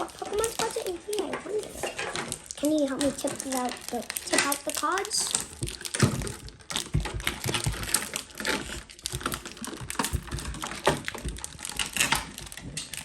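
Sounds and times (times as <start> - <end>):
trading cards clicking and rustling: 0.0 - 13.0.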